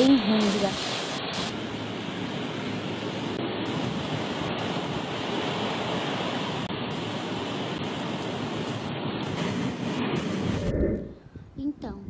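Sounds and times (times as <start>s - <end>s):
storm surf rushing: 0.0s - 12.0s
wind: 0.0s - 12.0s.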